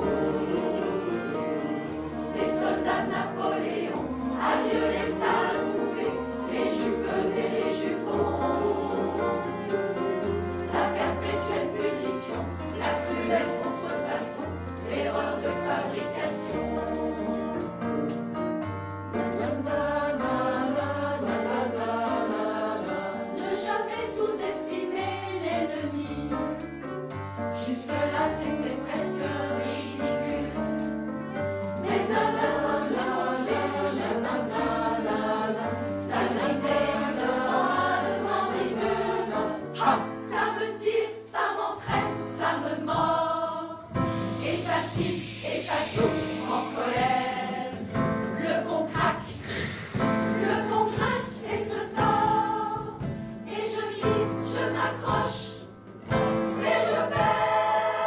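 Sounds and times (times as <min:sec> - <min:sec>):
instrumental accompaniment: 0:00.0 - 0:58.0
mixed choir singing in harmony: 0:00.0 - 0:58.0.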